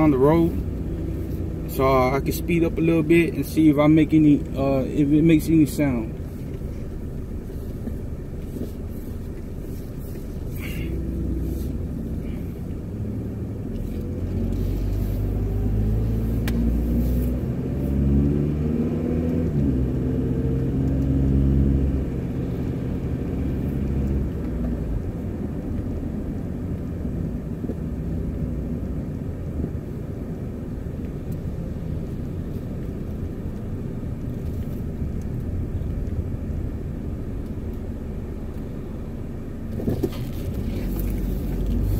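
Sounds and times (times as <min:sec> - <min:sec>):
car engine accelerating: 0:00.0 - 0:41.9
tyre and road noise: 0:00.0 - 0:41.9.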